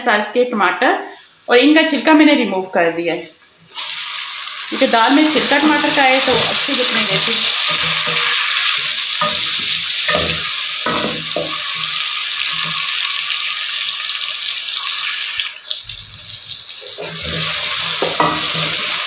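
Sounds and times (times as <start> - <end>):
tomatoes sizzling in hot oil: 2.9 - 19.0.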